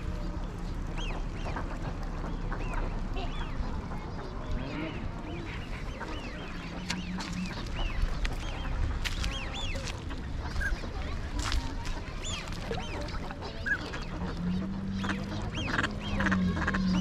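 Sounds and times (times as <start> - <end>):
flock of ducks calling: 0.0 - 17.0
low rumble: 0.0 - 17.0.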